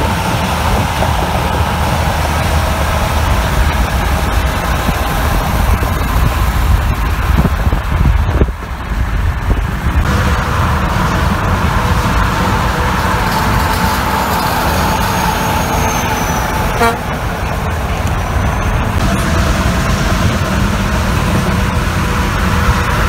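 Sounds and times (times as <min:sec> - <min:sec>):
trucks passing on highway: 0:00.0 - 0:23.0.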